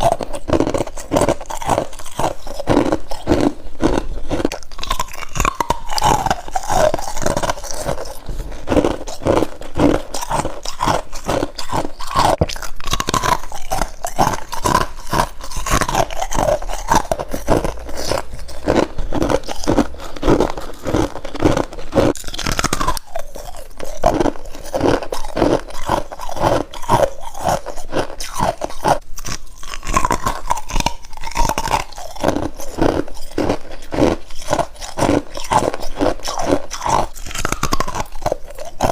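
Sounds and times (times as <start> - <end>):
crisp crunches of chewing frost: 0.0 - 38.9
squeaky chewing: 0.0 - 38.9.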